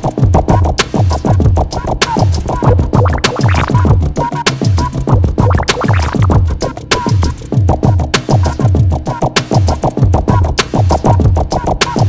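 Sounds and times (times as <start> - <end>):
hip-hop music with drum beat: 0.0 - 12.0.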